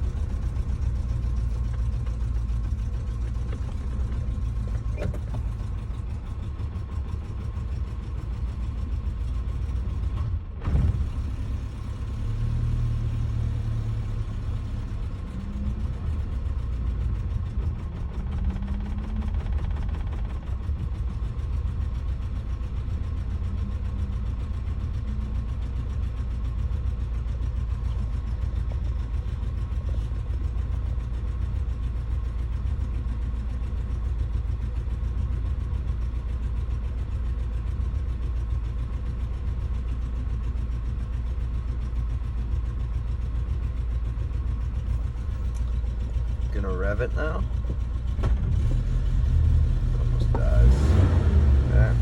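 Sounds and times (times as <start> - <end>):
car engine idling rough: 0.0 - 52.0.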